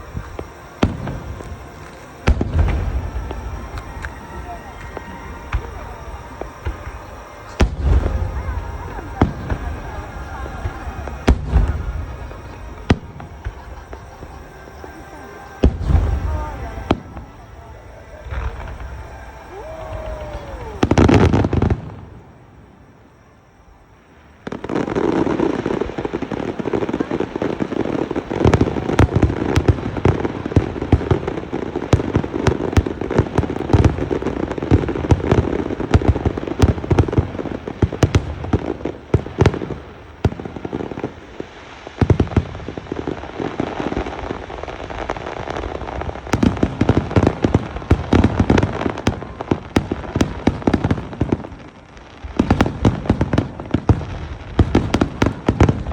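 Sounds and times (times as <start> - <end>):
firework burst: 0.0 - 55.9
firework whistle: 0.0 - 55.9
fireworks crackling pops and bangs: 0.0 - 55.9.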